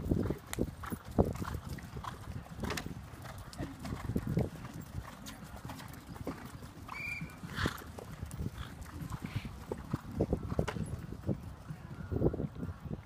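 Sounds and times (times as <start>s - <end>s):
horse hoofbeats on dirt: 0.0s - 12.8s.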